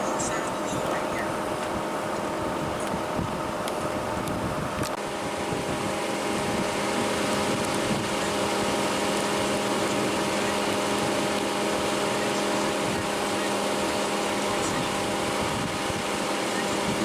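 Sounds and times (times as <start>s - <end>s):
vehicle mechanical hum: 0.0s - 17.0s.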